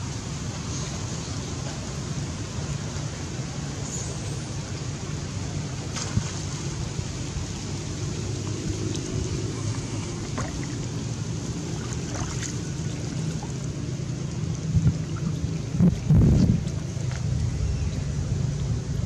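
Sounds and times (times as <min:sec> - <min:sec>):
faint water splashes: 0:00.0 - 0:19.0
steady low rumbling: 0:00.0 - 0:19.0.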